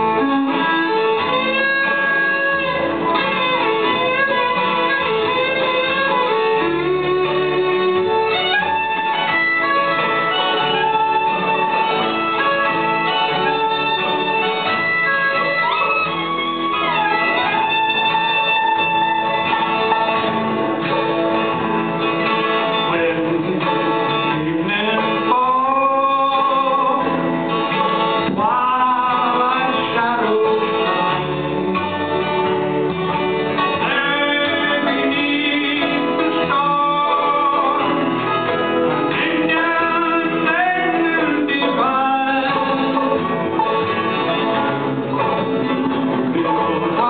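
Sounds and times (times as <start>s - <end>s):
bluegrass band playing: 0.0s - 47.0s
sliding string melody: 0.0s - 47.0s.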